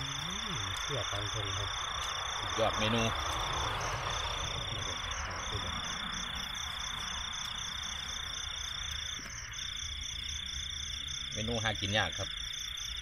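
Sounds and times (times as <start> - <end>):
insect high-pitched trill: 0.0 - 13.0
insect pulsing chirp: 0.0 - 13.0.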